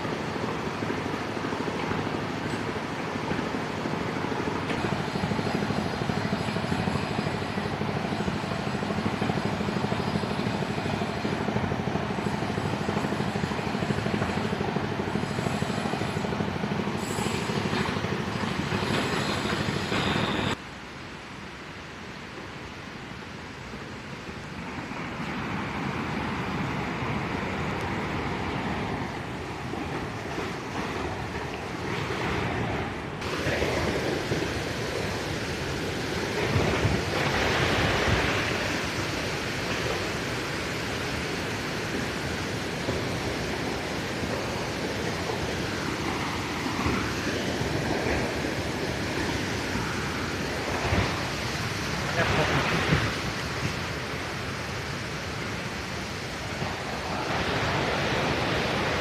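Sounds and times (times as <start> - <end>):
waterfall rushing: 0.0 - 21.2, 23.8 - 59.0.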